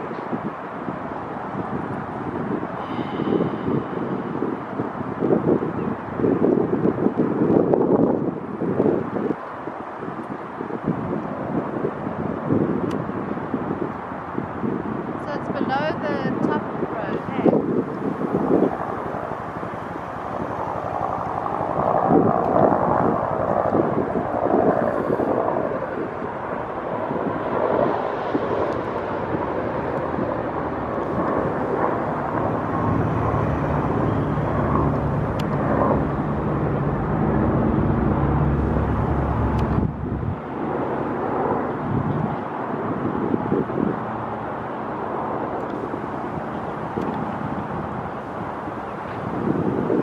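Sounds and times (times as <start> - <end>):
aircraft engines droning: 0.0 - 50.0
wind buffeting microphone: 0.0 - 50.0.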